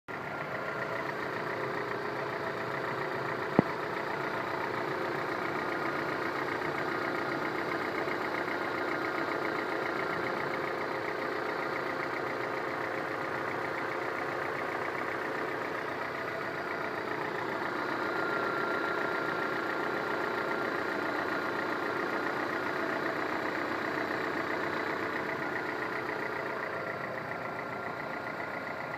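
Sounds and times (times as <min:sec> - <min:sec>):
engine idling with knocking clatter: 0:00.1 - 0:28.9.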